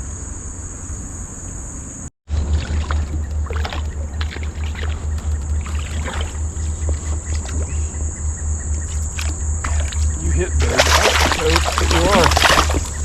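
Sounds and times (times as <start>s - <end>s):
high insect buzz: 0.0s - 2.1s, 2.8s - 13.0s
low pulsing rumble: 0.0s - 13.0s
water splashing against kayak: 2.3s - 13.0s.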